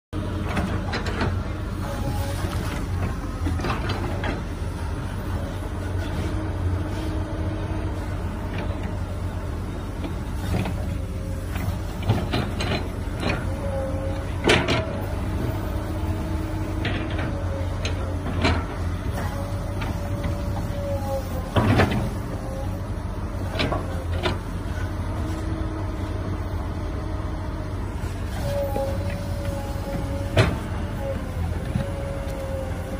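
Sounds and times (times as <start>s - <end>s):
diesel engine running: 0.2s - 32.9s
hydraulics whining: 0.2s - 32.9s.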